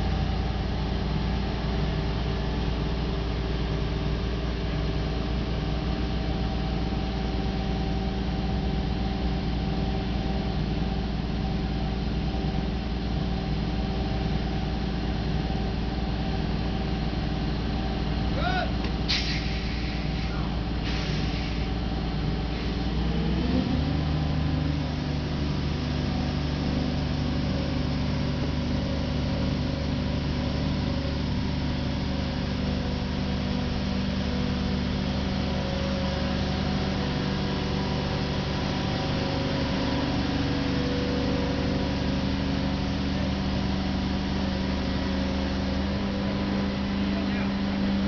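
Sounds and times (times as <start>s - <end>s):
heavy truck engine running: 0.0s - 48.0s.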